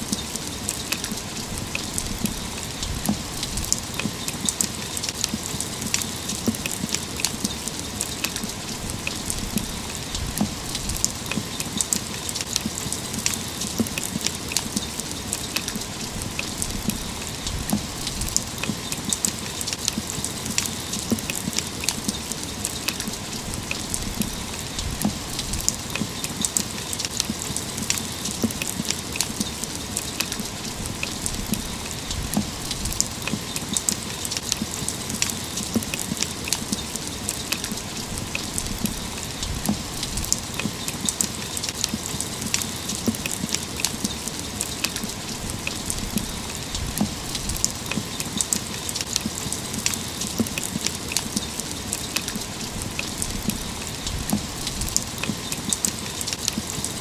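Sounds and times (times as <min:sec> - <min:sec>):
rain drops tapping on hard surface: 0:00.0 - 0:57.0
rain hiss: 0:00.0 - 0:57.0.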